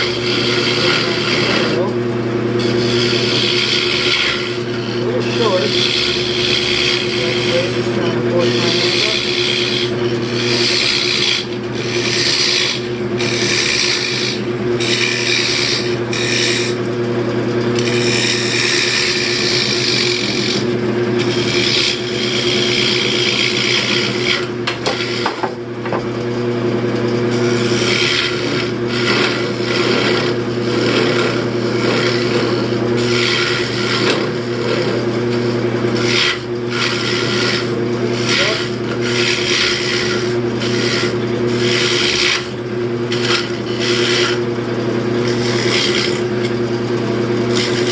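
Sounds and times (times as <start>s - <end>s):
turning tool scraping wood: 0.0s - 47.9s
wood lathe motor hum: 0.0s - 47.9s.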